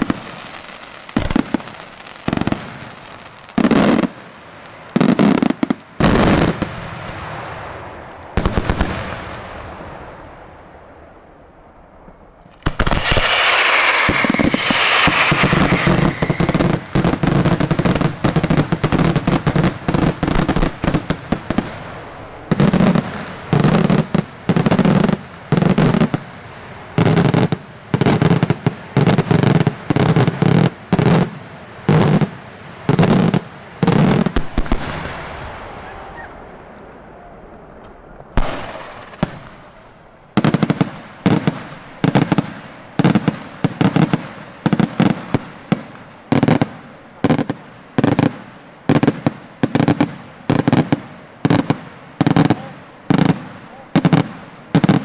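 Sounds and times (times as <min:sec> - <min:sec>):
fireworks bursts and crackling: 0:00.0 - 0:55.0
fireworks hiss: 0:00.0 - 0:55.0
loud fireworks bangs echoing: 0:00.0 - 0:55.0.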